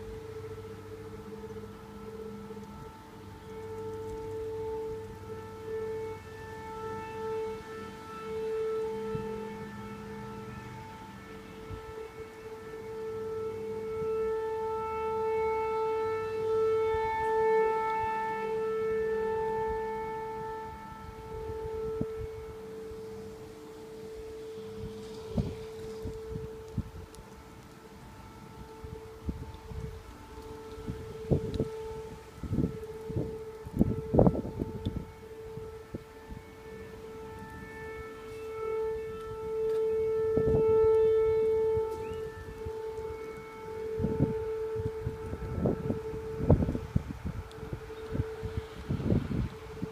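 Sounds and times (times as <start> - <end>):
horn-like drone in the sky: 0.0 - 49.9.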